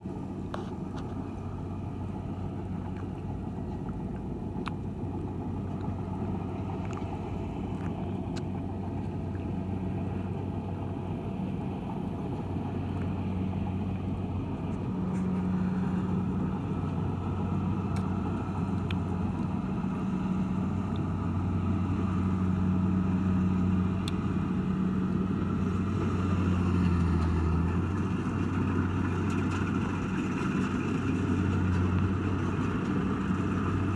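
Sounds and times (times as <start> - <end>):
combine harvester engine running: 0.0 - 33.9.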